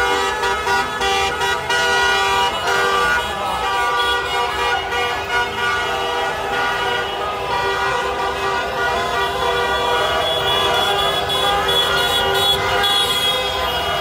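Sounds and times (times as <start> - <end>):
car horns honking: 0.0 - 14.0
slow street traffic: 0.0 - 14.0.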